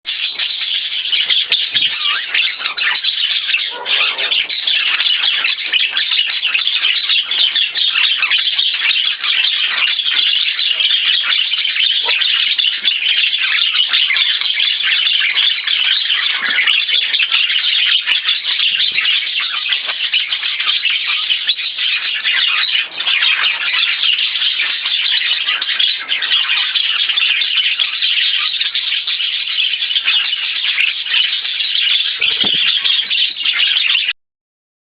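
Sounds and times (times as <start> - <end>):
budgerigar warbling: 0.1 - 34.1.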